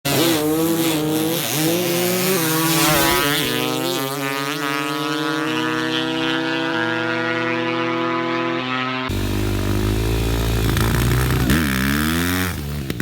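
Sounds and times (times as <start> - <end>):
dirt bike engine revving: 0.1 - 13.0.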